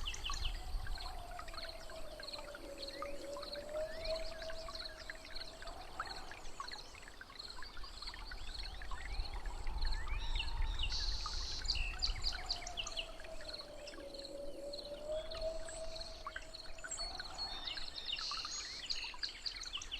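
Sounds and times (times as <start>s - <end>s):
pulsing insect call: 0.0s - 6.9s, 8.5s - 18.1s.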